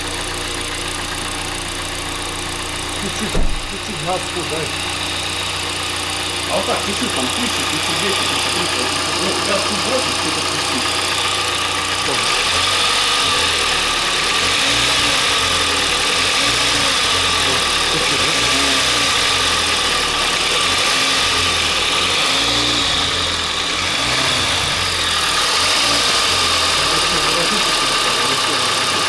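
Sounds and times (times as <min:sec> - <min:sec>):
car engine revving: 0:00.0 - 0:29.0
engine knocking: 0:00.0 - 0:29.0.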